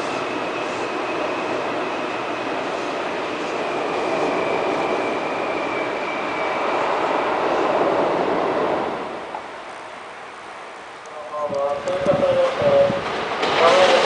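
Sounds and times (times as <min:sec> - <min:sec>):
high whine: 0:00.0 - 0:13.9
electric train rumble: 0:00.0 - 0:14.0.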